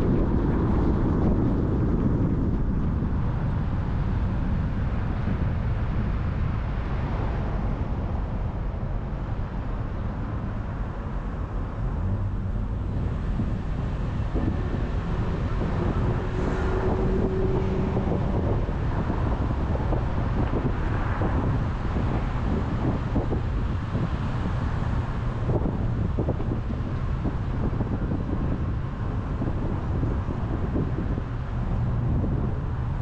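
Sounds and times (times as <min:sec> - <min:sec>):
car road and wind rumble: 0:00.0 - 0:33.0.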